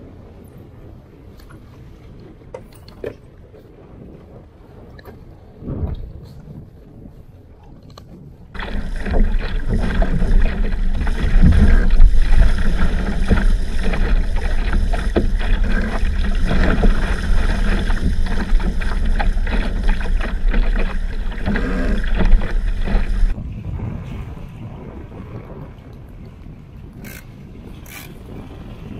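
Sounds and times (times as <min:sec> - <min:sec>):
water splashing along a hull: 0:00.0 - 0:28.9
wind buffeting microphone: 0:00.0 - 0:28.9.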